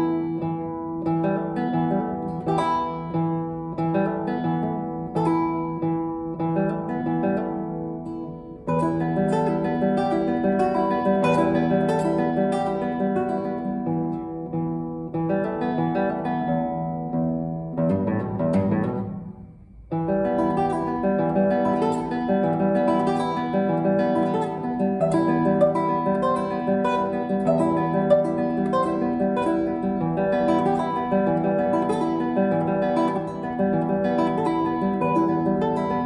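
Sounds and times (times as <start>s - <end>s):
classical guitar playing: 0.0s - 36.0s.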